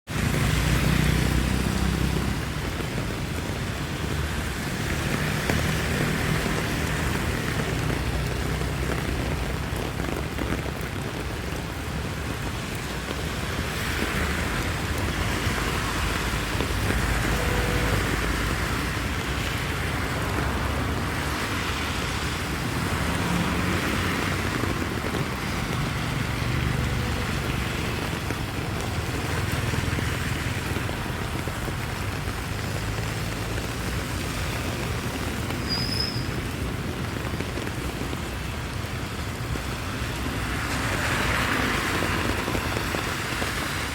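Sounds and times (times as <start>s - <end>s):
rain falling on a street: 0.1s - 43.9s
tyre hiss of passing vehicles: 0.1s - 43.9s.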